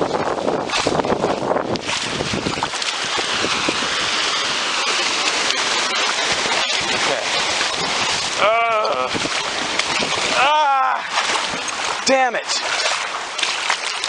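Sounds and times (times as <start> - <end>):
steady rain falling: 2.2 - 14.0.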